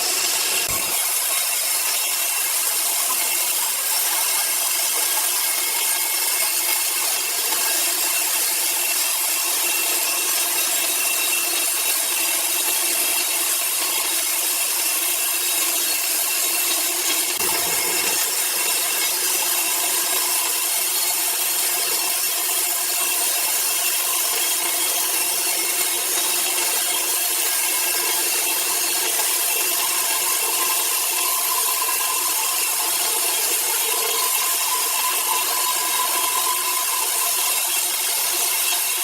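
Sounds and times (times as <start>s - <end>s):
machine saw cutting timber: 0.0s - 39.0s.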